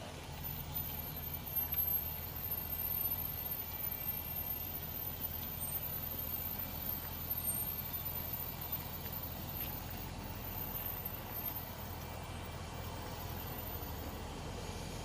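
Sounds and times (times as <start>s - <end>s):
vehicle rolling rumble: 0.0s - 15.0s
wheel squeak: 0.3s - 14.3s.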